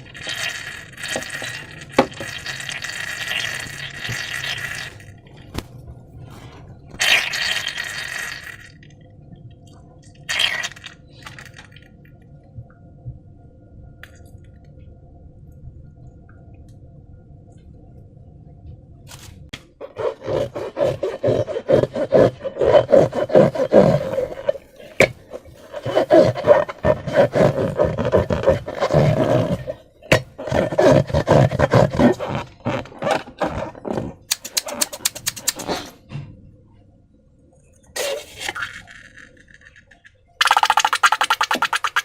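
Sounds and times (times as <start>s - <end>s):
faint low hum: 0.0s - 34.8s, 35.7s - 41.8s.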